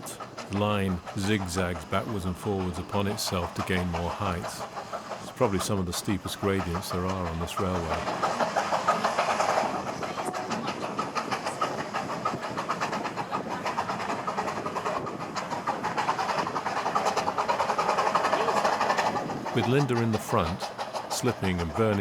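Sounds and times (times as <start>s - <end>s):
steam locomotive chuffing: 0.0s - 22.0s.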